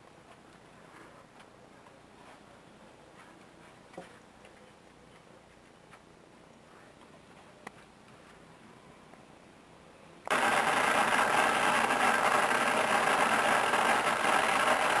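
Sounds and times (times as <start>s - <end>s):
television static hiss: 0.4s - 15.0s.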